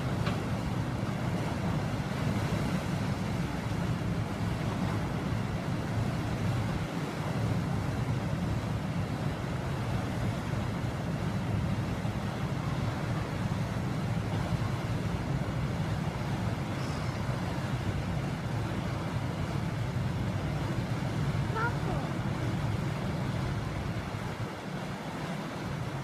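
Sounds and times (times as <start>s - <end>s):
boat engine low rumble: 0.0s - 26.0s
propeller churning water: 0.0s - 26.0s.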